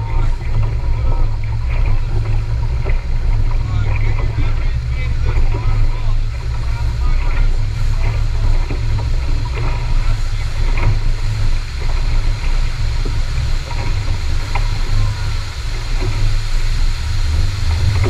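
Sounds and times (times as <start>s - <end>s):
boat low rumble: 0.0s - 18.0s
faint water splashes: 0.0s - 18.0s.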